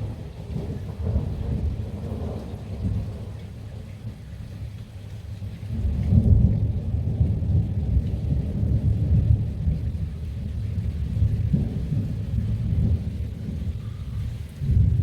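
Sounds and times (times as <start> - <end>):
rolling thunder: 0.0 - 3.9, 5.7 - 15.0.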